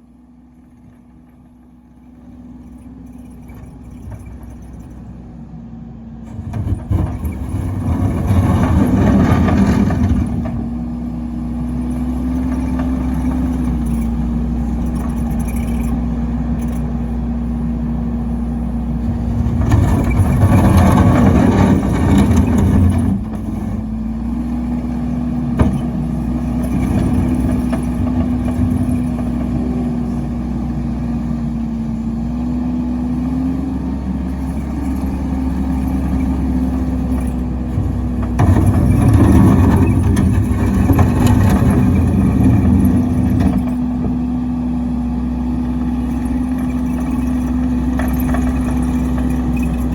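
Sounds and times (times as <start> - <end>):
log splitter engine running: 0.0 - 49.9.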